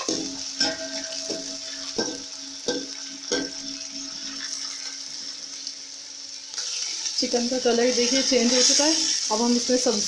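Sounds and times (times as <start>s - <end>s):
chicken frying in oil: 0.0s - 10.0s.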